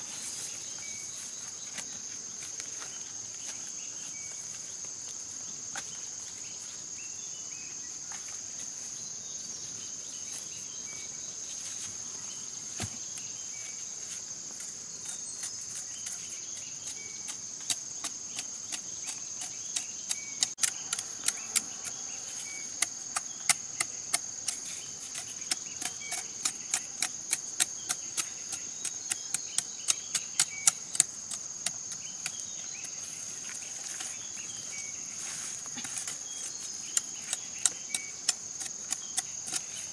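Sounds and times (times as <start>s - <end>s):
insect chirring: 0.0s - 39.9s.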